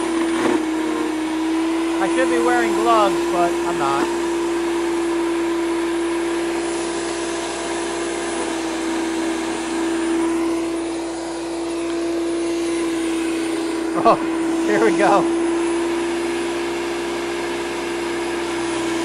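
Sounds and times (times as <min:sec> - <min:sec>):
electric chipper shredder whine: 0:00.0 - 0:19.0.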